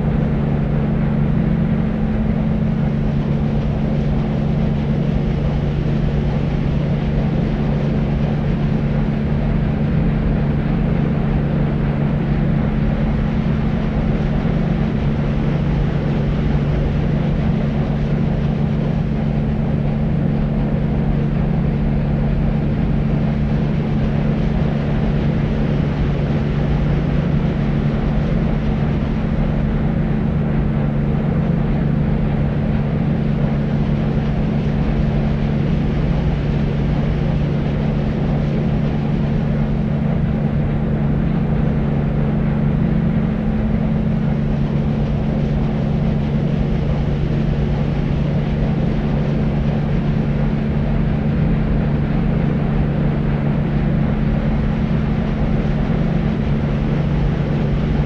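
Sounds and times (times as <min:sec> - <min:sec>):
deep white noise: 0:00.0 - 0:58.0
steady low hum: 0:00.0 - 0:58.0.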